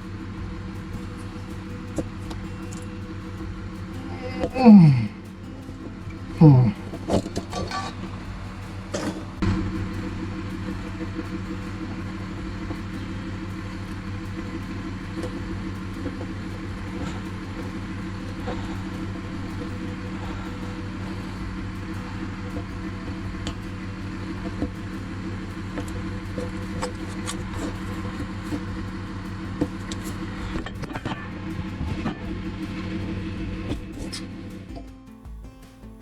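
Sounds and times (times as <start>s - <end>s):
machine hum: 0.0s - 34.8s.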